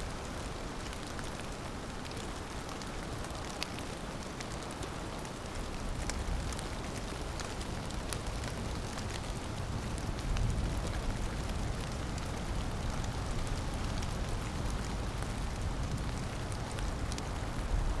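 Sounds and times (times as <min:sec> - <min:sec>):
heavy rain: 0:00.0 - 0:18.0
sharp raindrop ticks: 0:00.0 - 0:18.0.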